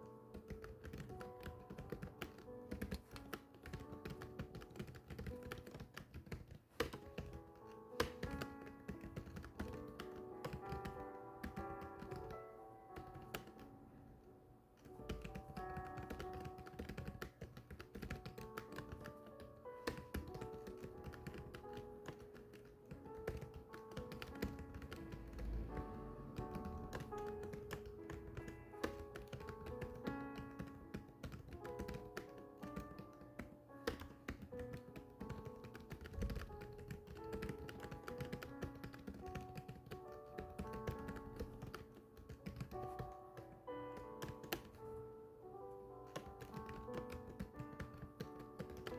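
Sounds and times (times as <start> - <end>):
rapid keyboard typing: 0.0 - 13.7, 14.8 - 48.9
background music: 0.0 - 48.9.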